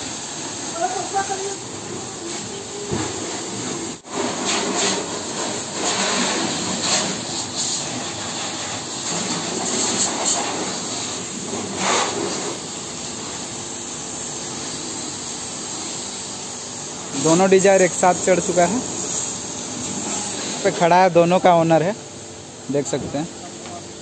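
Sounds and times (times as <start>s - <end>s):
pressure washer spray hissing: 0.0s - 23.8s.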